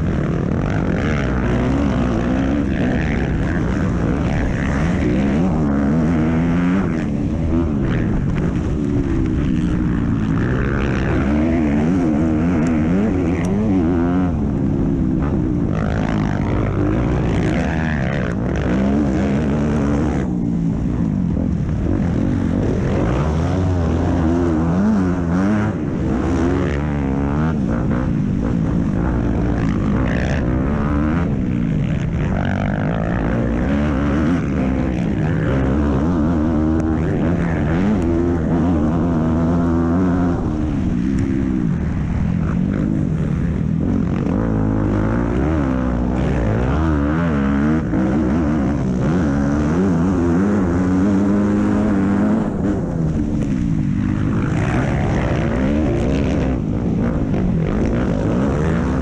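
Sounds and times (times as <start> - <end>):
motocross bike engine revving: 0.0 - 59.0
wind rush: 0.0 - 59.0.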